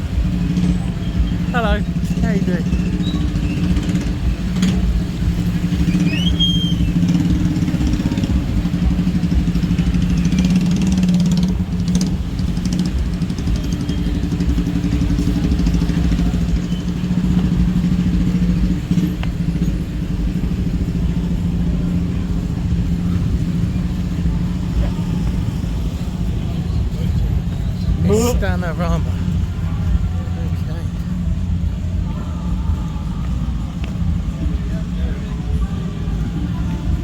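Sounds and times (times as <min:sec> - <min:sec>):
motorbike engines humming: 0:00.0 - 0:37.0.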